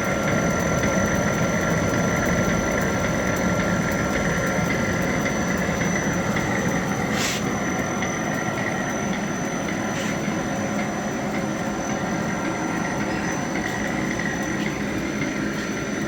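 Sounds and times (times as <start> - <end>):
printing machine whirring: 0.0 - 16.0.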